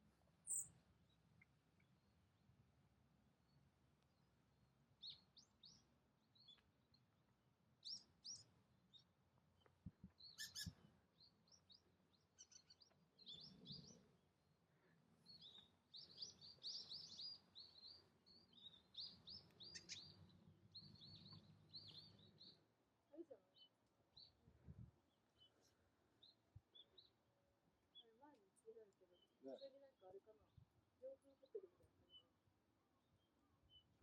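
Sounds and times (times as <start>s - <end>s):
small birds chirping: 0.2s - 2.2s, 3.4s - 34.0s.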